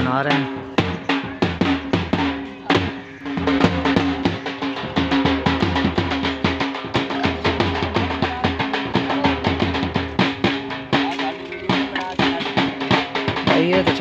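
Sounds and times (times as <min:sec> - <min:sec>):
fast drum beat: 0:00.0 - 0:14.0.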